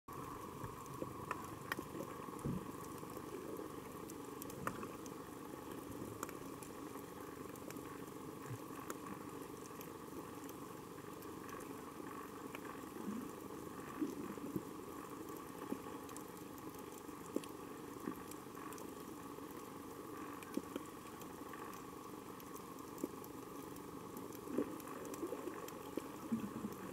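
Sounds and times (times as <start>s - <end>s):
constant hum: 0.1s - 26.9s
sharp underwater clicks: 0.2s - 26.9s.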